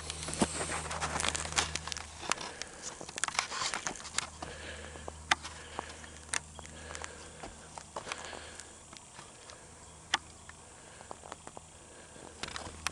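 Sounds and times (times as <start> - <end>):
low steady hum: 0.0 - 12.9
light crackling clicks: 1.1 - 12.9.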